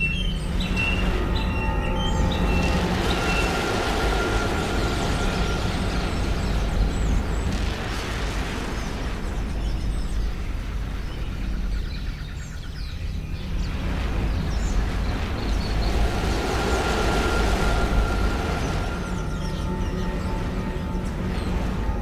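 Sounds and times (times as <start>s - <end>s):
thunder rumbling: 0.0s - 11.7s, 13.4s - 22.0s
rain hissing: 0.3s - 11.4s, 13.4s - 22.0s.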